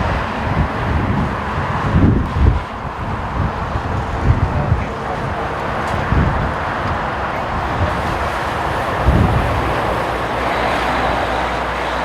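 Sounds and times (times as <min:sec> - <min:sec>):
jet engine roar: 0:00.0 - 0:12.0
wind buffeting microphone: 0:00.0 - 0:12.0.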